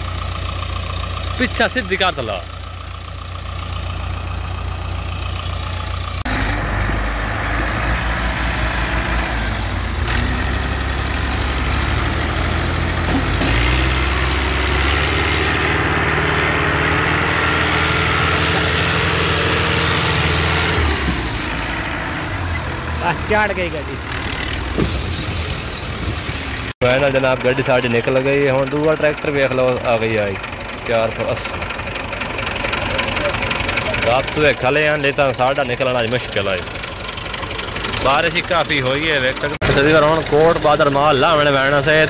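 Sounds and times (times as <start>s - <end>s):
diesel tractor engines under load: 0.0s - 42.0s.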